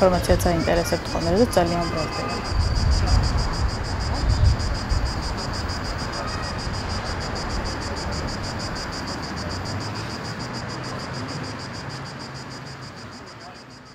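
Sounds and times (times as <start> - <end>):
traffic rumble: 0.0 - 13.9.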